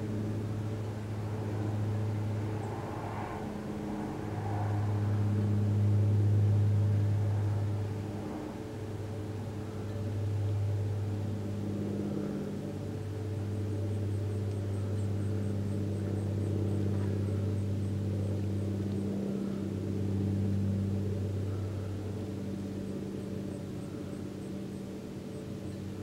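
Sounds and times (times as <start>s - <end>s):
low droning hum of held tones: 0.0s - 26.0s.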